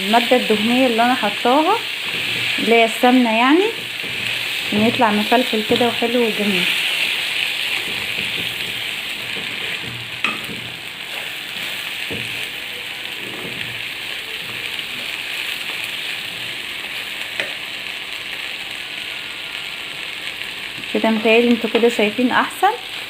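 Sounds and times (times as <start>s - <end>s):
rice sizzling in oil: 0.0s - 23.0s.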